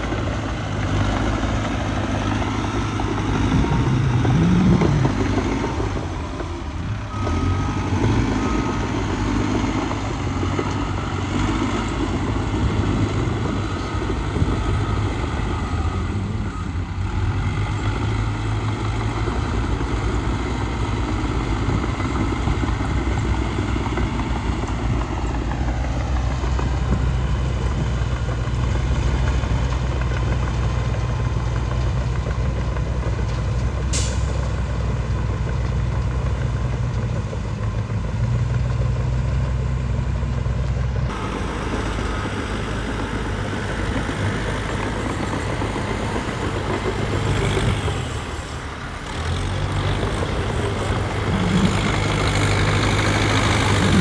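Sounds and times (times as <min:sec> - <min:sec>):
diesel earthmoving machinery drone: 0:00.0 - 0:54.0.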